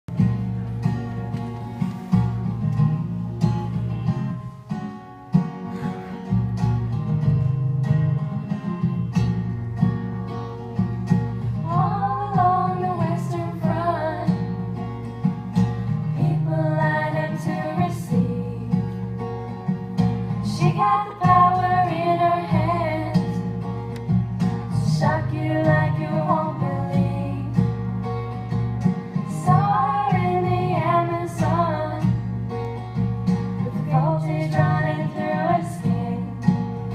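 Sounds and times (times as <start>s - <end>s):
acoustic guitar and plucked strings: 0.1s - 36.9s.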